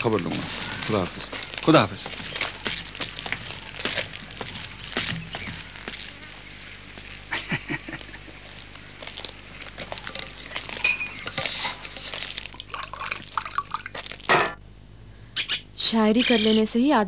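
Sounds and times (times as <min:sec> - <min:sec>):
small birds chirping: 0:00.0 - 0:14.2, 0:15.3 - 0:17.0.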